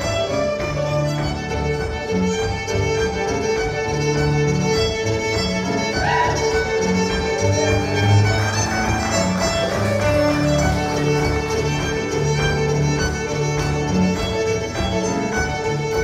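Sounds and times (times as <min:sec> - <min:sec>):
fiddles playing traditional tune: 0:00.0 - 0:16.0.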